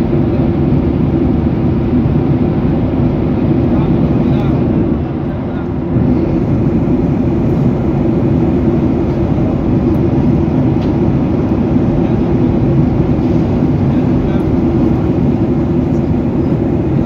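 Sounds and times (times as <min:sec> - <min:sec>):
airliner cabin engine noise: 0:00.0 - 0:17.0.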